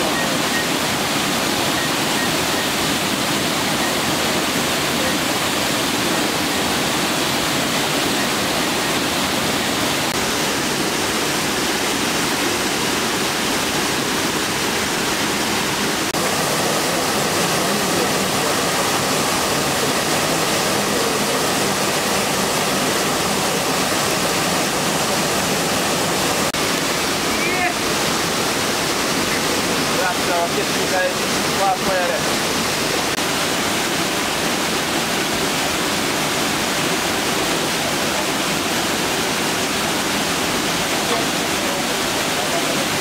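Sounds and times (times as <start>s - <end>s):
river water pouring over falls: 0.0s - 43.0s.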